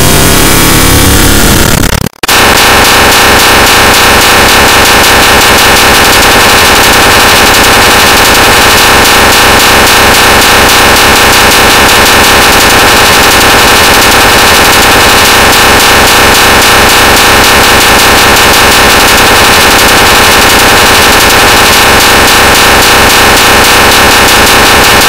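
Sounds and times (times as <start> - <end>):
harsh noise music: 0.0 - 25.0.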